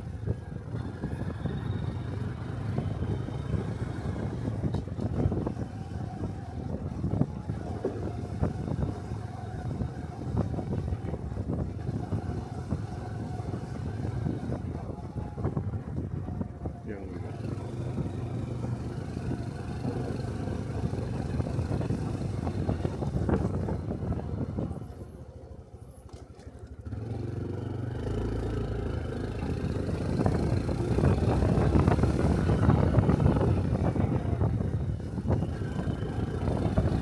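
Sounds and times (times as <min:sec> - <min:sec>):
wind noise on microphone: 0:00.0 - 0:25.3, 0:26.9 - 0:37.0
motorcycle running: 0:00.0 - 0:37.0.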